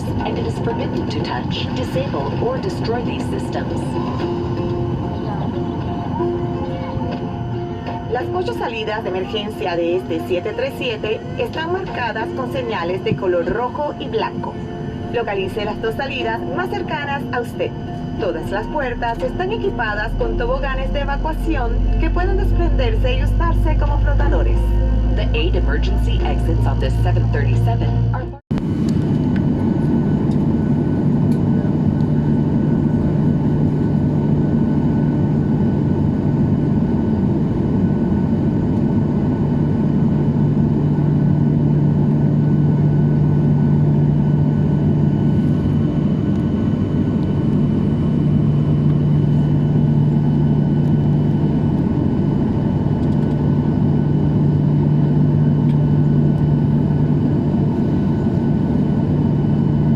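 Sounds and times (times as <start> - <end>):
airplane cabin rush: 0.0 - 20.0, 26.2 - 59.9
low engine hum: 0.0 - 59.9.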